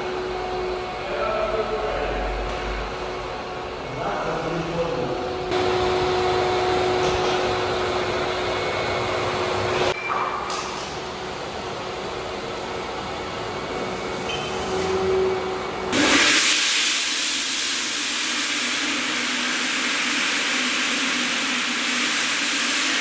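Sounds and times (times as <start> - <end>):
floor machine whooshing and humming: 0.0 - 23.0.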